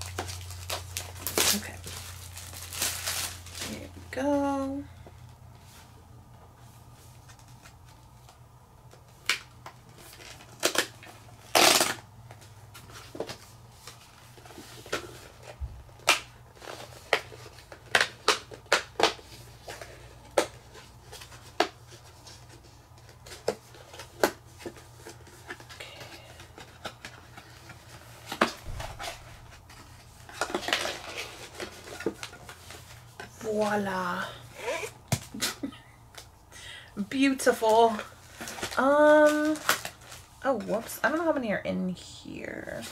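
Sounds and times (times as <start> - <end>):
plastic shrink wrap crinkling: 0.0 - 5.4, 7.0 - 36.3, 37.1 - 41.4.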